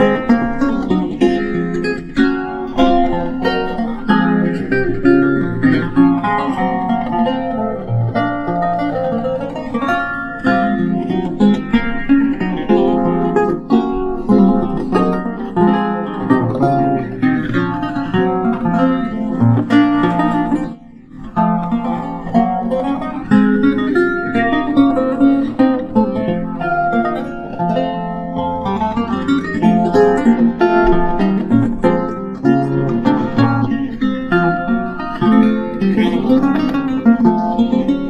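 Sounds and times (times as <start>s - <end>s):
lute playing plucked melody: 0.0s - 38.0s.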